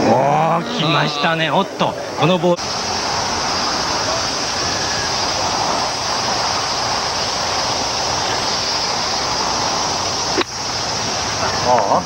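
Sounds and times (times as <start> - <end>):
television broadcast hiss: 0.0 - 12.0.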